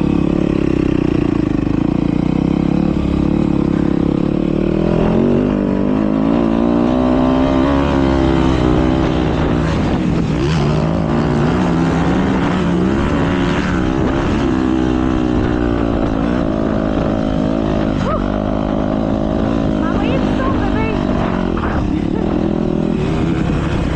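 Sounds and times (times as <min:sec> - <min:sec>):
motocross bike engines revving: 0:00.0 - 0:23.9.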